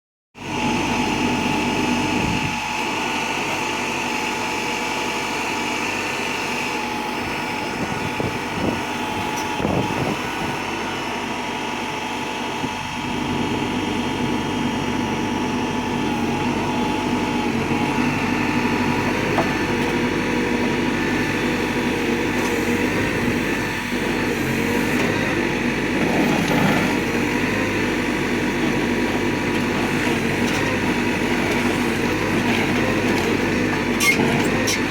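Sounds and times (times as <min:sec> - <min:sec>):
diesel engine running: 0:00.4 - 0:34.9
hydraulic whine: 0:00.4 - 0:34.9.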